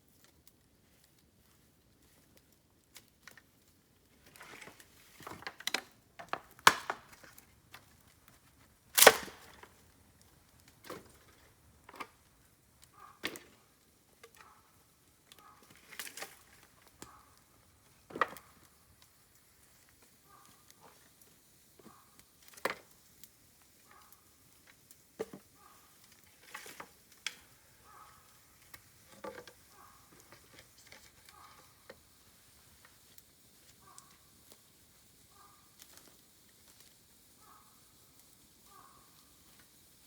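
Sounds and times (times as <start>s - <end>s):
dry bamboo cracking: 0.1s - 34.7s, 35.8s - 37.0s.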